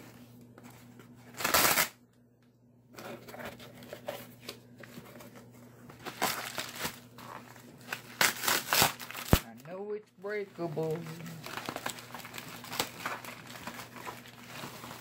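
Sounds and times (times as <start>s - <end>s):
bubble wrap crinkling: 0.0s - 2.0s, 3.0s - 9.6s, 10.6s - 15.0s.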